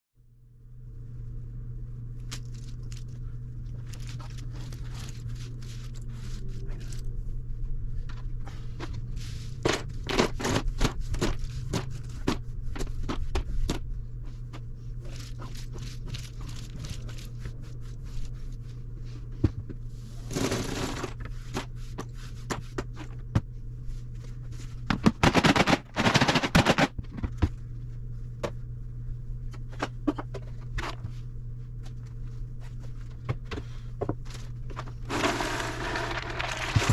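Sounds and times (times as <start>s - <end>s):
steady low hum: 0.2s - 36.9s.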